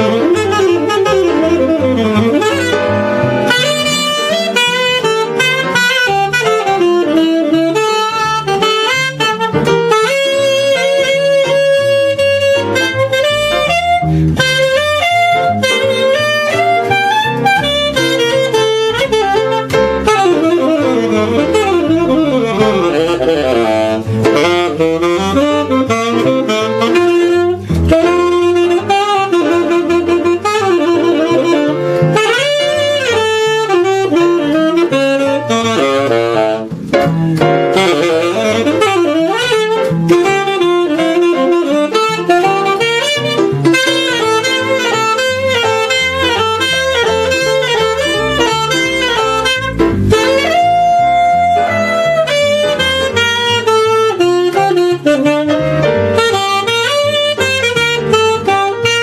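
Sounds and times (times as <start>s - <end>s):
bass: 0.0s - 59.0s
piano: 0.0s - 59.0s
tenor saxophone jazz solo: 0.0s - 59.0s.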